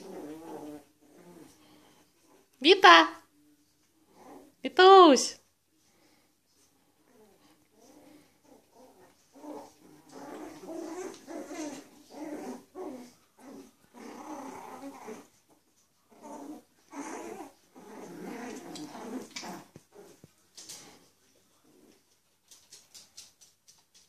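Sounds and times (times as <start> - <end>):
puppies growling in play: 0.0 - 2.6, 3.8 - 4.6, 5.9 - 23.4.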